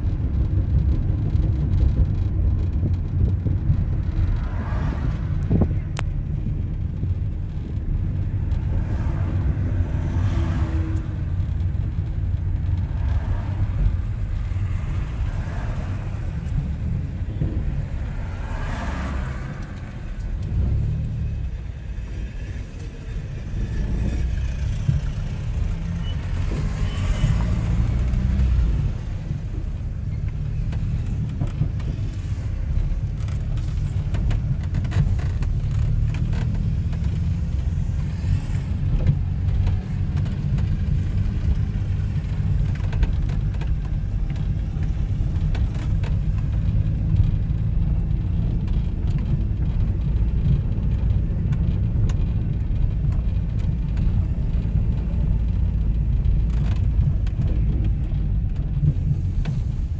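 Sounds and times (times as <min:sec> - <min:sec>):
car engine rumble: 0:00.0 - 0:59.9
road noise: 0:00.0 - 0:59.9.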